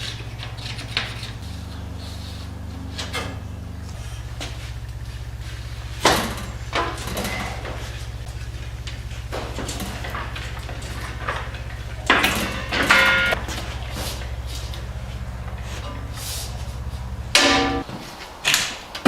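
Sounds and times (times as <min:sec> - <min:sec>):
low hum: 0:00.0 - 0:17.9
metal clanks: 0:00.0 - 0:19.0.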